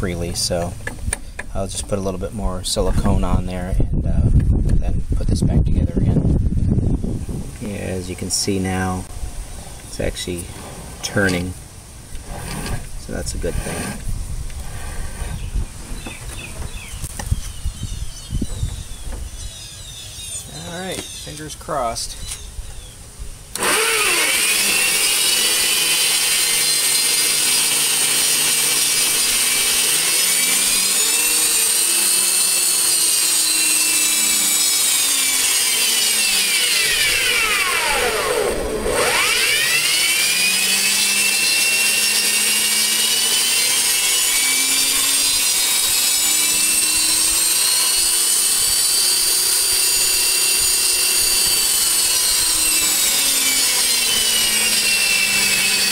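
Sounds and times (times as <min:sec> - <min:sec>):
bandsaw whining: 0:07.6 - 0:22.5, 0:23.5 - 0:55.9.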